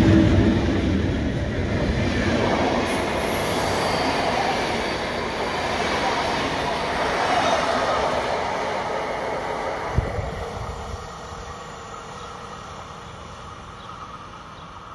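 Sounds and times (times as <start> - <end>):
train rolling on rails: 0.0 - 14.9.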